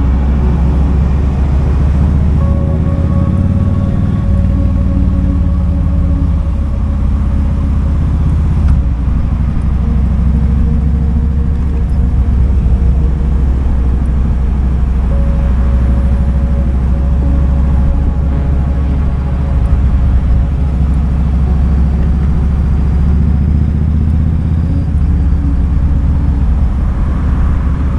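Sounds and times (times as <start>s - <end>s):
motorcycle engine rumbling: 0.0s - 27.9s.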